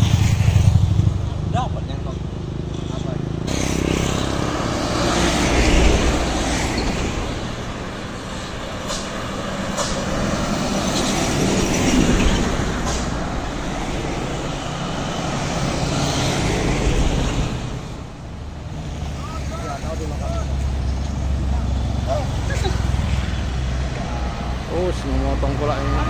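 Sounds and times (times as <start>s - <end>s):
trucks and cars passing: 0.0s - 26.0s.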